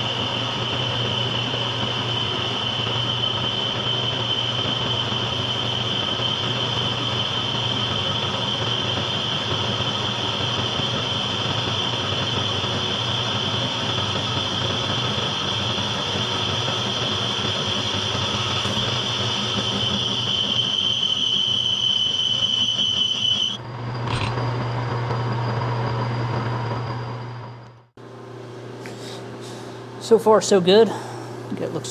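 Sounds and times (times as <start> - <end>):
machine tool humming: 0.0 - 27.8
high-pitched whine of metal cutting: 0.0 - 27.9.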